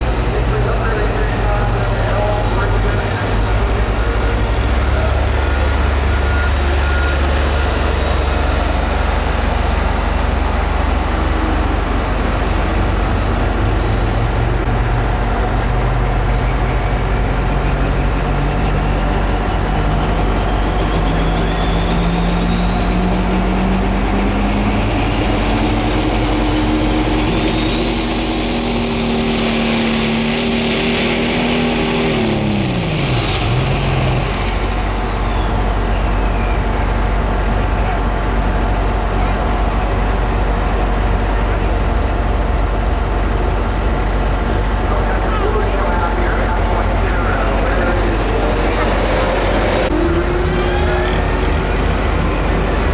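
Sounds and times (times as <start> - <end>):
diesel engine running under load: 0.0 - 52.9
turbocharger whistle: 0.3 - 14.5, 15.4 - 38.0, 44.9 - 52.9.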